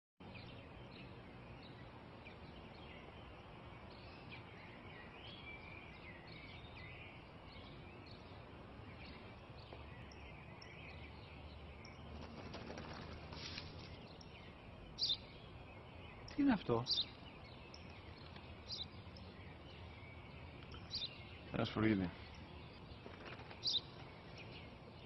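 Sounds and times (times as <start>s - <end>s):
small birds chirping: 0.2s - 25.0s
steady low hiss: 0.2s - 25.0s.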